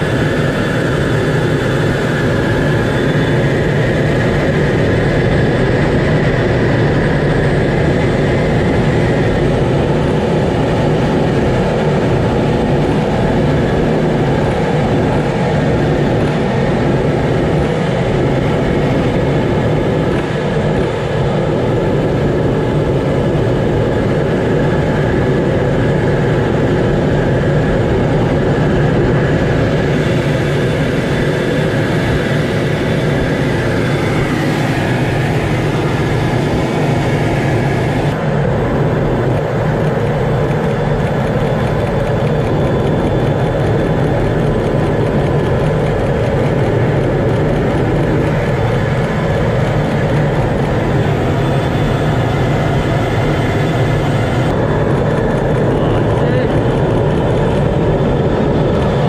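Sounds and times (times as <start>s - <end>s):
jet engine and airflow rush: 0.0s - 59.0s
thin steady whine: 0.0s - 59.0s.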